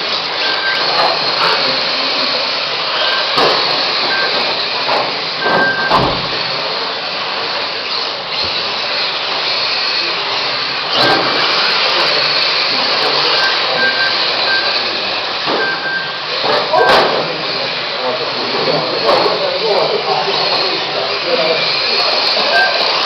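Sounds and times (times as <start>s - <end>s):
small electric motors whining: 0.0s - 23.0s.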